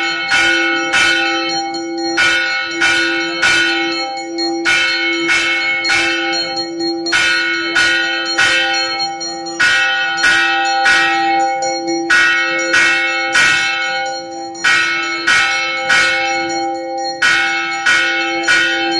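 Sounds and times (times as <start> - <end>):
temple bell ringing: 0.0 - 18.9.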